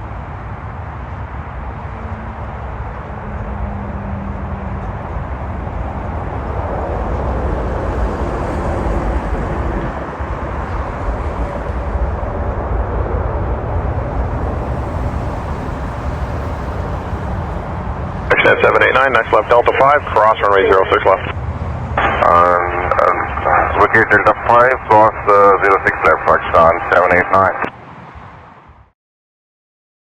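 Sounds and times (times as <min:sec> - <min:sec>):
jet engines of landing airliner: 0:00.0 - 0:28.8.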